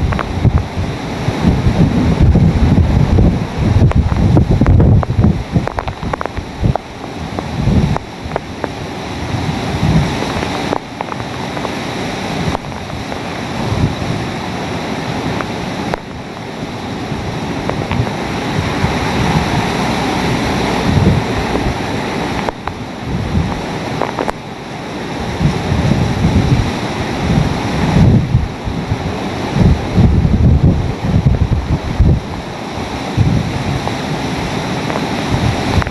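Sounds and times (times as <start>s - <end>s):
strong wind blowing in gusts: 0.0s - 35.9s
wind buffeting microphone: 0.0s - 35.9s.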